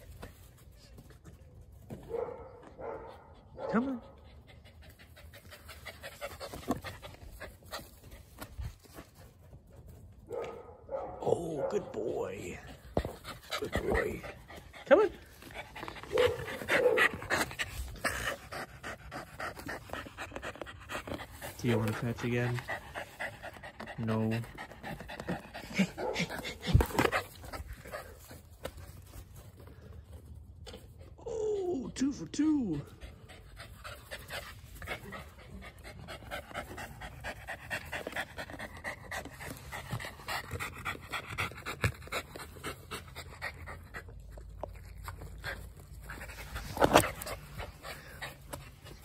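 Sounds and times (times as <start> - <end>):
dog panting: 3.2 - 10.5, 12.5 - 30.0, 32.7 - 49.0.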